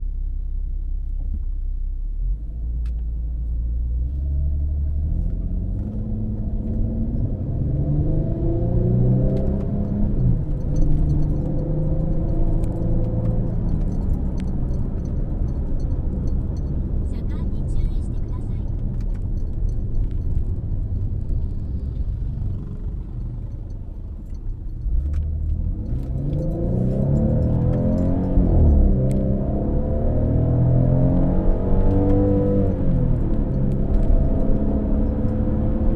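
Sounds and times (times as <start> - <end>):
car exhaust rumble revving: 0.0 - 35.9.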